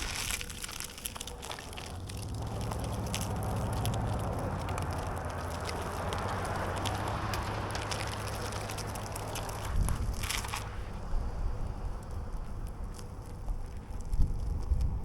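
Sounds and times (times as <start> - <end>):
board wheels rolling on pavement: 0.0 - 15.0
small ticks and crackles: 0.0 - 15.0
wind rumbling on microphone: 0.0 - 15.0.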